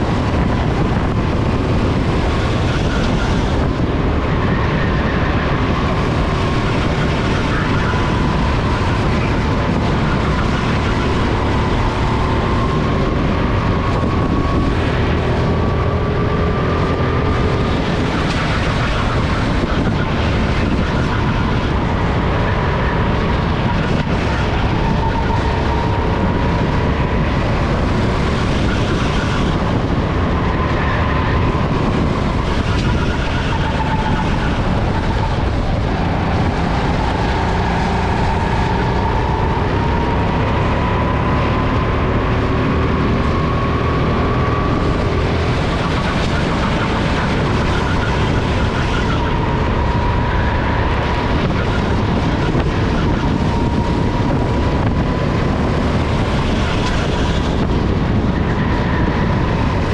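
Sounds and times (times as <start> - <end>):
go-kart engine revving: 0.0 - 59.9
wind rumble on microphone: 0.0 - 59.9.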